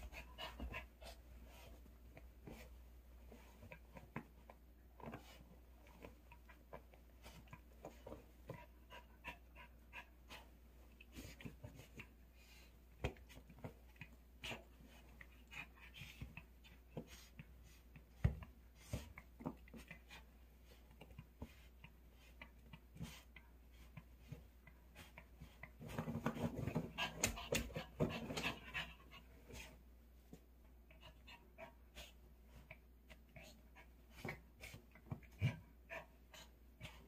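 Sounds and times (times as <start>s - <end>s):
paws tapping and scratching: 0.0s - 12.2s, 12.9s - 31.8s, 32.5s - 37.0s.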